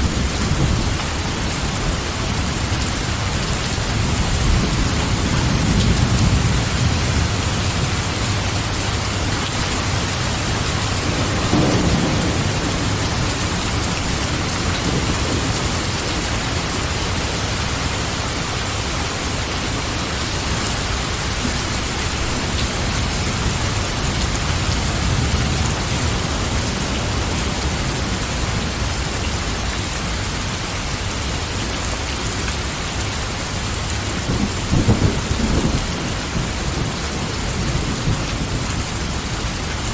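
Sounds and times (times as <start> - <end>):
low rolling thunder: 0.0 - 29.2, 33.9 - 39.9
heavy rain falling: 0.0 - 39.9.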